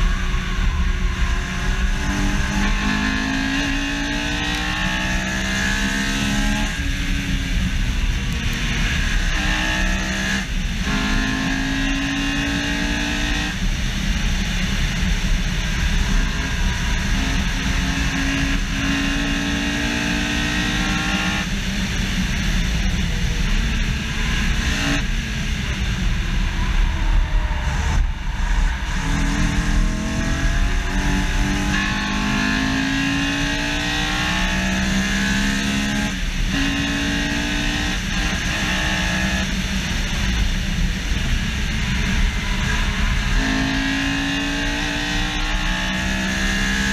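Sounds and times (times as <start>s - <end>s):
car engine revving hard: 0.0s - 46.9s
wind and road noise: 0.0s - 46.9s.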